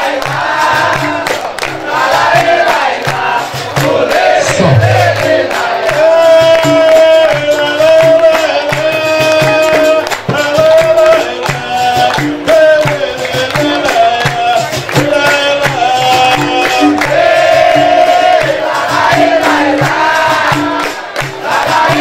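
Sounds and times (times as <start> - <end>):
berimbau and drum rhythm: 0.0 - 22.0
chorus singing: 0.0 - 22.0
hand clapping: 0.0 - 22.0.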